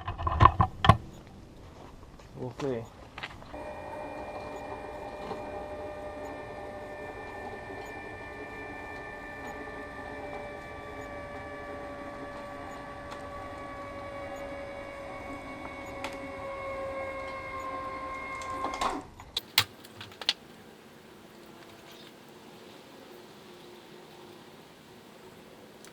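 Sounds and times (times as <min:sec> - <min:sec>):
electric winch motor whining: 0:03.5 - 0:25.9.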